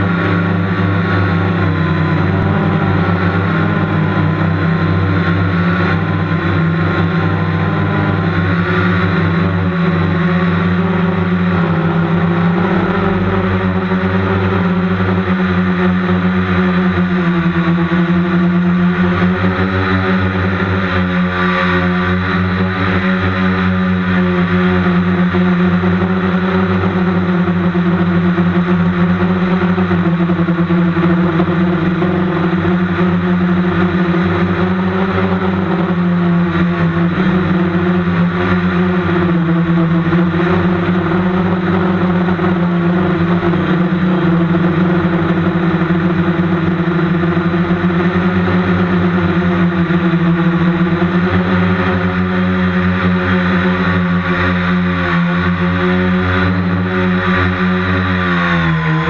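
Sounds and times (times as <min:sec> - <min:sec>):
helicopter rotors whirring: 0:00.0 - 0:59.0.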